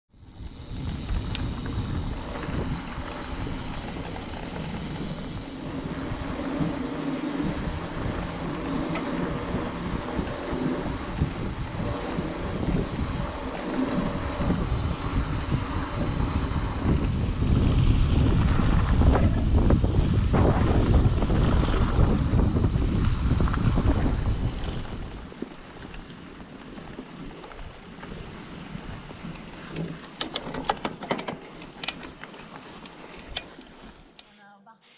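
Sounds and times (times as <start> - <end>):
bike tyres rolling on dirt: 0.1 - 34.2
wind buffeting microphone: 0.2 - 30.8.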